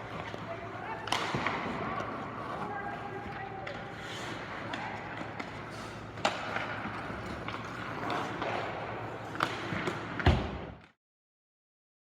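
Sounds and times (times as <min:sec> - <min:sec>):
skates scraping on ice: 0:00.0 - 0:10.8
hockey sticks and pucks clacking: 0:00.0 - 0:11.0.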